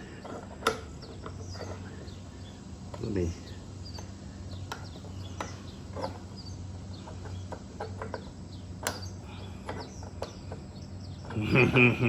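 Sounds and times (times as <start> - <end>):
bolt clicking against bushing: 0.0 - 2.2, 2.8 - 6.4, 7.0 - 11.4
birds chirping faintly: 0.0 - 12.0.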